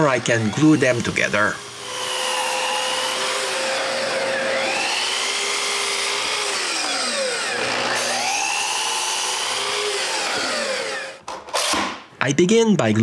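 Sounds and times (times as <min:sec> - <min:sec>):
power tool cutting wood: 0:00.0 - 0:11.9.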